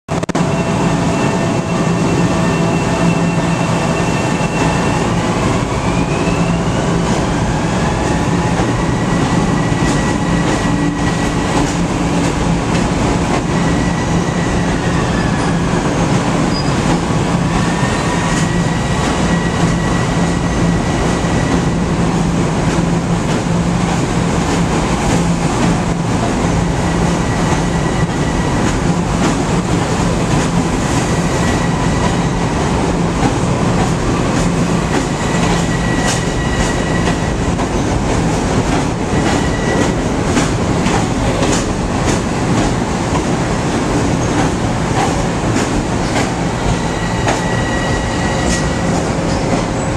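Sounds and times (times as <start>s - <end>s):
train cars rumbling: 0.1s - 49.9s.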